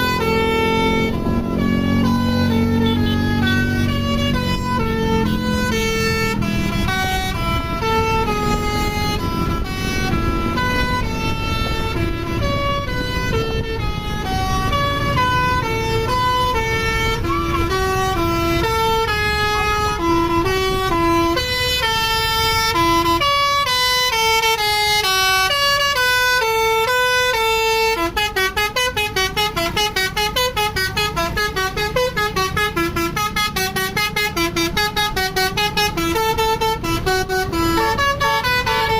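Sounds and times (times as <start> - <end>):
bus engine rumble: 0.0 - 38.9
musical air horn melody: 0.0 - 38.9.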